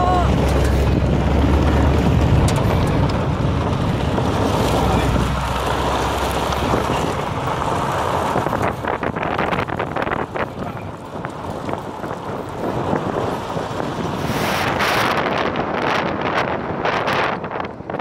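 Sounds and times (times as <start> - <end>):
knocks and rattles from road: 0.0 - 18.0
low road rumble: 0.0 - 18.0
wind noise on microphone: 0.0 - 18.0.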